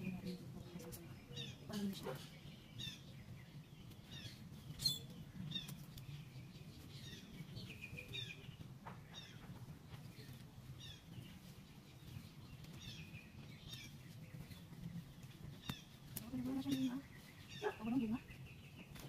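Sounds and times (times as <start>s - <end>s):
faint low outdoor rumble: 0.0s - 19.0s
songbirds chirping: 0.0s - 19.0s.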